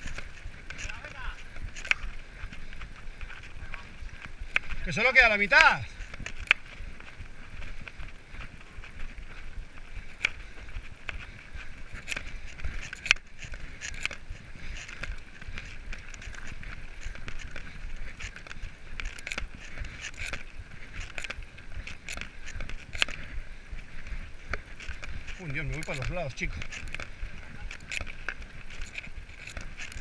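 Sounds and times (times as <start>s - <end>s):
bike rattling: 0.0s - 30.0s
bike tyres crunching on gravel: 0.0s - 30.0s.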